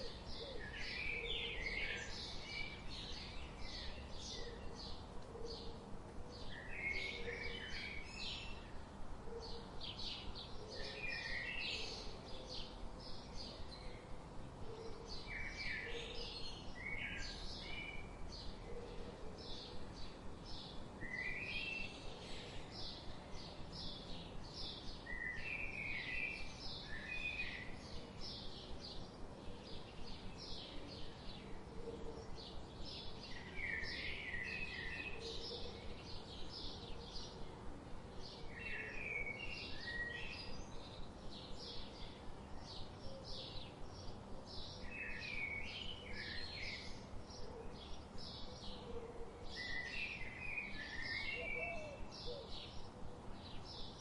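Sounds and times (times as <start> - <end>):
faint outdoor background hiss: 0.0 - 54.0
songbirds chirping: 0.0 - 54.0.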